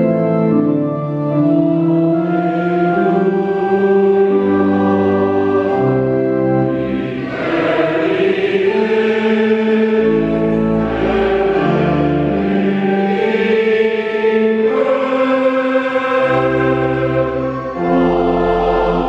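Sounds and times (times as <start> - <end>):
choir singing a hymn: 0.0 - 19.0
organ accompaniment: 0.0 - 19.0.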